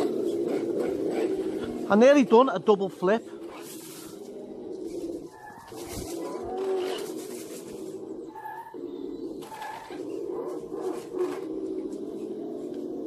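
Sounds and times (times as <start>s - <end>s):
pigeon cooing: 0.0s - 2.2s, 3.2s - 13.0s.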